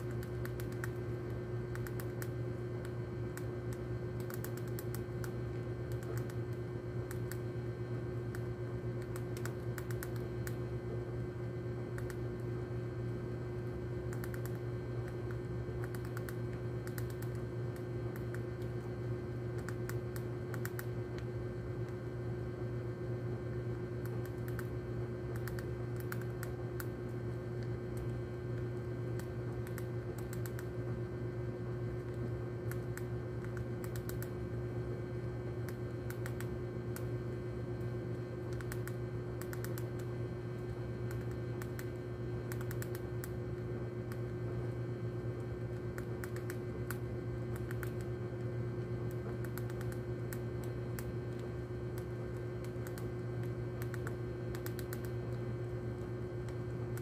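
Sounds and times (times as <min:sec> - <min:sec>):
rat gnawing pellets: 0:00.0 - 0:07.6, 0:08.2 - 0:10.7, 0:14.1 - 0:22.0, 0:24.0 - 0:30.7, 0:31.9 - 0:34.4, 0:37.8 - 0:44.7, 0:45.4 - 0:57.0
steady low hum: 0:00.0 - 0:57.0.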